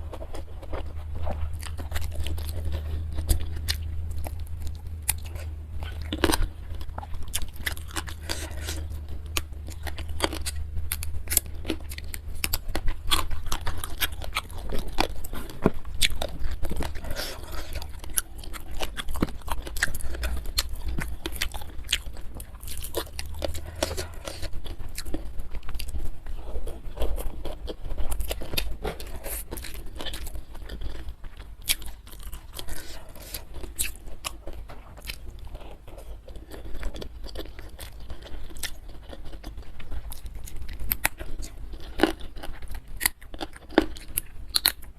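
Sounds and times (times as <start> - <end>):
chewing and crunching food: 0.0 - 44.9
low steady hum: 0.0 - 44.9.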